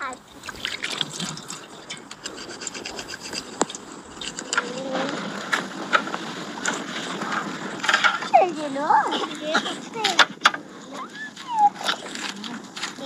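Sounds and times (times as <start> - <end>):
rhythmic scraping strokes: 0.0 - 13.0.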